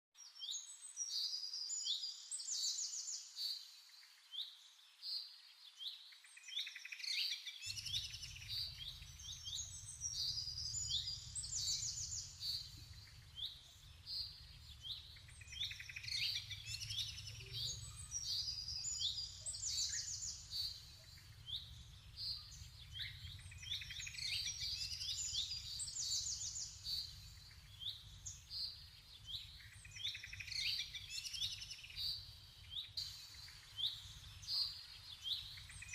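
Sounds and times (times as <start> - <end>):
songbirds chirping and trilling: 0.2 - 35.9.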